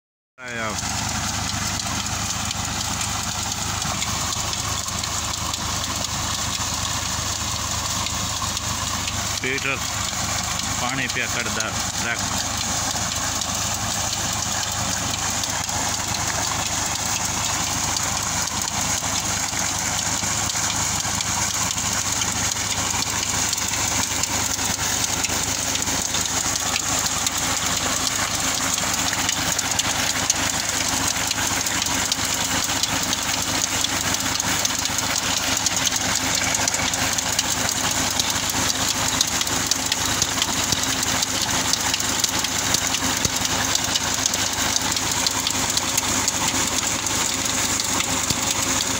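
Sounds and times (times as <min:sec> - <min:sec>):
diesel tractor engine running: 0:00.4 - 0:48.9
water pouring from pipe: 0:00.4 - 0:48.9.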